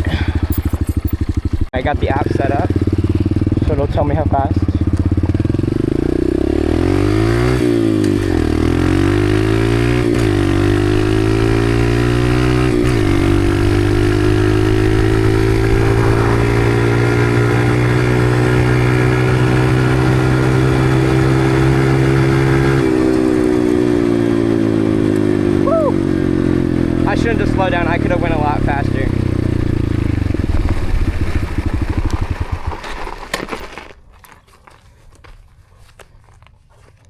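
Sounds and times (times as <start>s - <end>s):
dirt bike engine accelerating: 0.0s - 34.0s.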